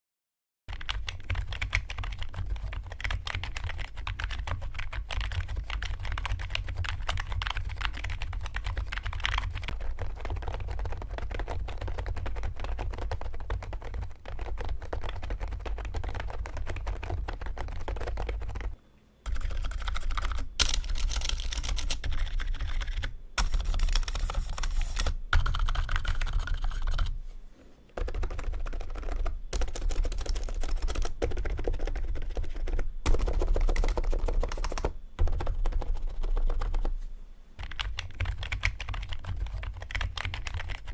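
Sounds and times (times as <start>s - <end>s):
fast typing on keyboard: 0.7s - 27.2s, 28.0s - 37.0s, 37.6s - 40.9s.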